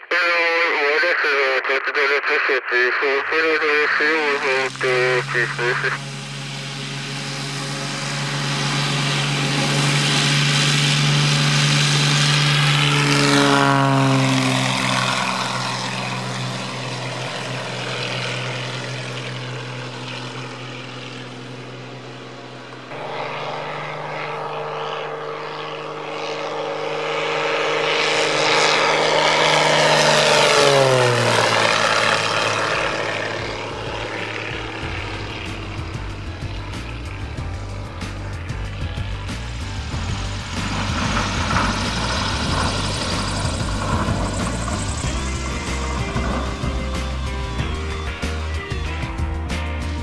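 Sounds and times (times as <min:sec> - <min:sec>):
propeller airplane flying past: 0:00.0 - 0:50.0.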